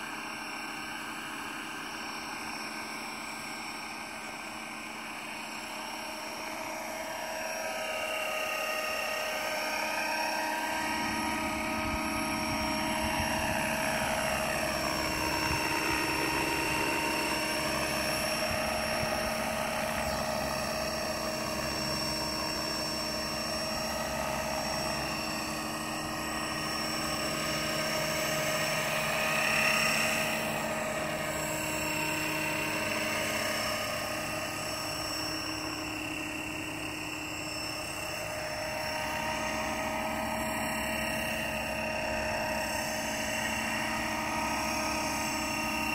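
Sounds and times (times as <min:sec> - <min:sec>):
low rotor rumble: 0:00.0 - 0:45.9
model helicopter motor whine: 0:00.0 - 0:45.9
rotor blades whirring: 0:00.1 - 0:45.9.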